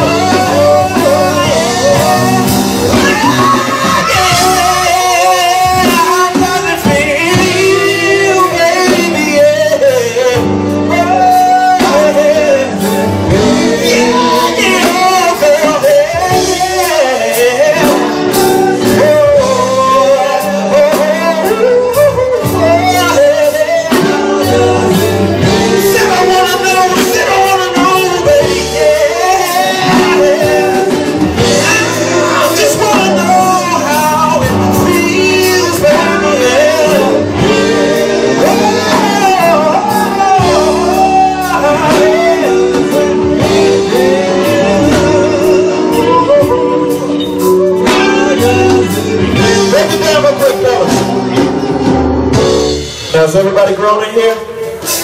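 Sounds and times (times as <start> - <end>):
lead vocalist singing: 0.0 - 55.0
live band playing slow groove: 0.0 - 55.0.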